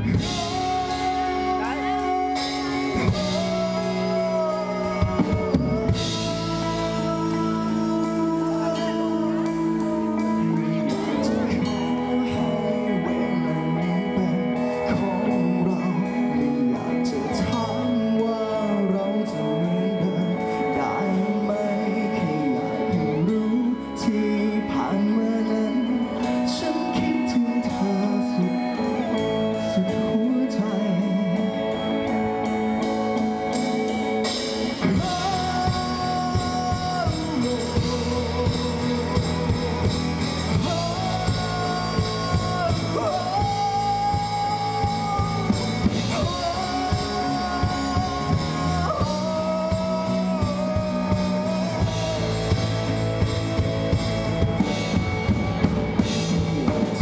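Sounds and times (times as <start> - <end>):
drum kit: 0.0 - 19.0, 26.2 - 57.0
electric bass: 0.0 - 57.0
electric guitar: 0.0 - 57.0
man singing: 0.0 - 57.0.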